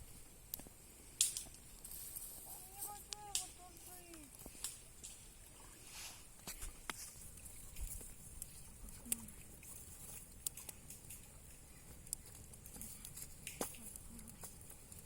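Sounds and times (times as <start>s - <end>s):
campfire crackling and popping: 0.0s - 15.0s
faint hiss: 0.0s - 15.0s.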